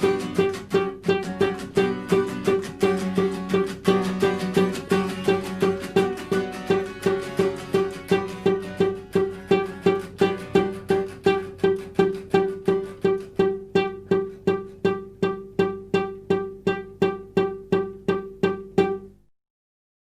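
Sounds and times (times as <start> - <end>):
plucked string instrument notes: 0.0 - 19.3.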